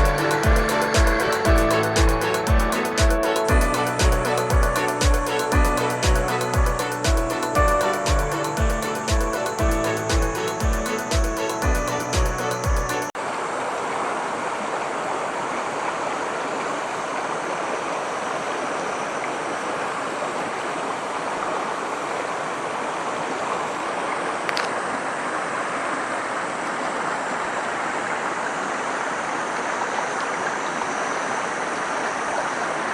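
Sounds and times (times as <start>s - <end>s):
stream water rushing: 0.0s - 32.9s.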